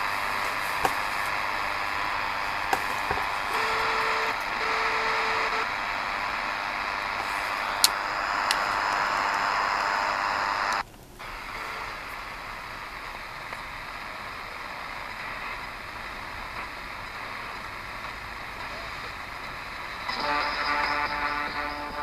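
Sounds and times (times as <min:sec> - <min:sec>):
radio static: 0:00.0 - 0:22.0.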